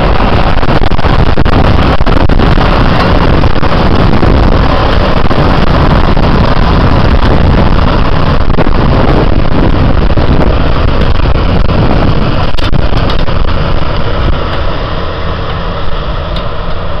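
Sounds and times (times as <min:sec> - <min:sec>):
tractor engine and machinery: 0:00.0 - 0:17.0.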